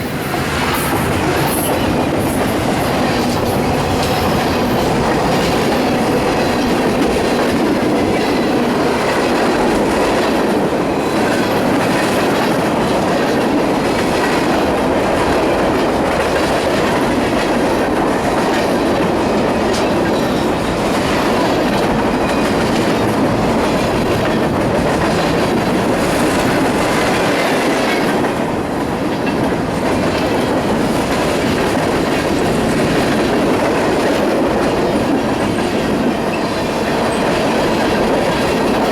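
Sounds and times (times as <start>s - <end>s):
train cars rumbling past: 0.0s - 38.9s
wheels clacking over rail joints: 0.0s - 38.9s.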